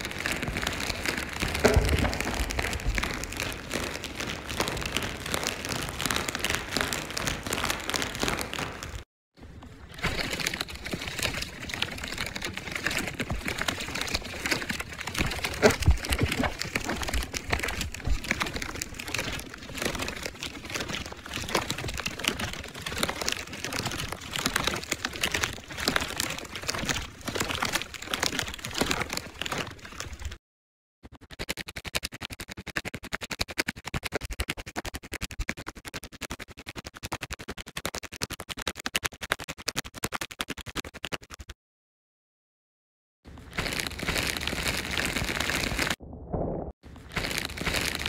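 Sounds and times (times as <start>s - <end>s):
plastic rattle shaken: 0.0s - 9.0s, 10.0s - 30.3s, 31.1s - 41.6s, 43.4s - 46.0s, 46.9s - 48.0s.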